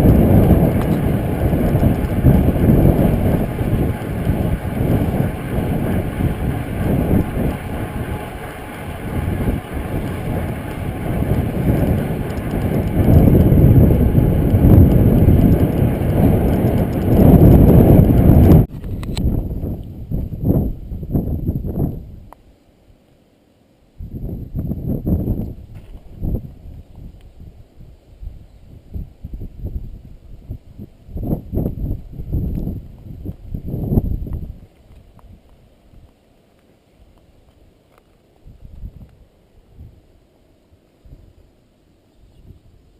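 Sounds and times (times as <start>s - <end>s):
wind buffeting microphone: 0.0s - 22.4s, 24.0s - 36.1s, 38.4s - 40.1s.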